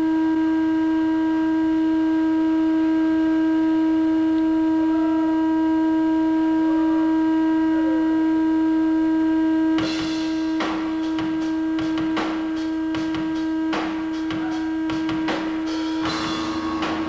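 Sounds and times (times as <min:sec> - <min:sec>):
steady held tone: 0:00.0 - 0:17.0.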